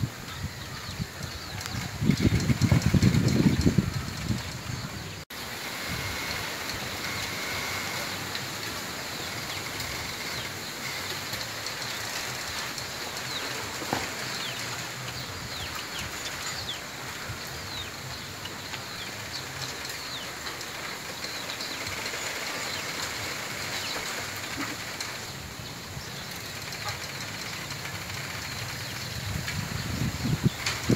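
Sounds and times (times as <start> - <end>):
wind through bamboo leaves: 0.0 - 30.9.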